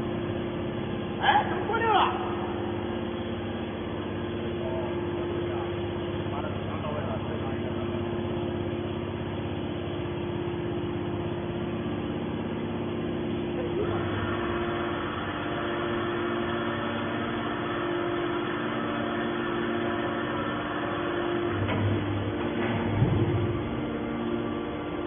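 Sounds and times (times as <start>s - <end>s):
hydraulic machine hum: 0.0s - 25.0s.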